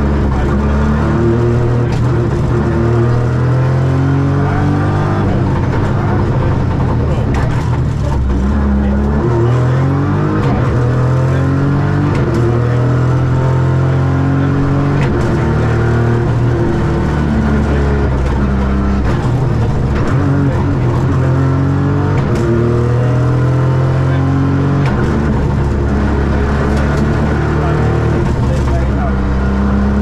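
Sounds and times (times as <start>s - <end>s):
car engine revving through gears: 0.0s - 30.0s.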